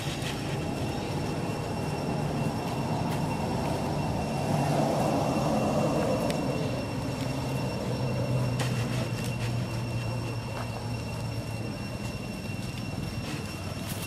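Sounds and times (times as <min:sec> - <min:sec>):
engine running low rumble: 0:00.0 - 0:14.0
faint high whine: 0:00.0 - 0:14.0.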